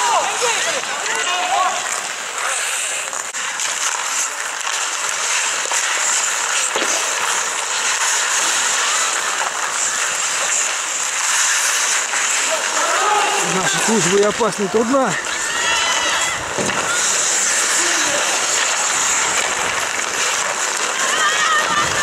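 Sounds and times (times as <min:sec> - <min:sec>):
skate blades scraping ice: 0:00.0 - 0:22.0.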